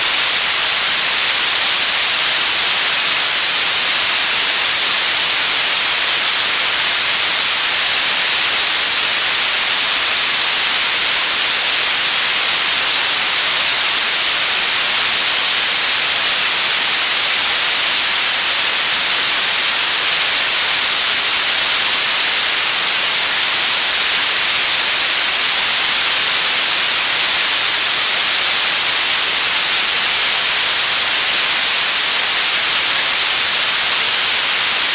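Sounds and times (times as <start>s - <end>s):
static white noise hiss: 0.0s - 34.9s.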